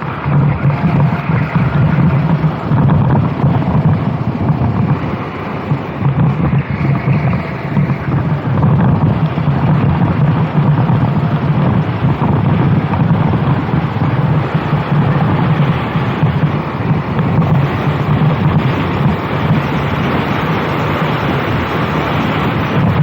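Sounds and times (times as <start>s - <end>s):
kart engine running: 0.0s - 23.0s
wind buffeting microphone: 0.0s - 23.0s.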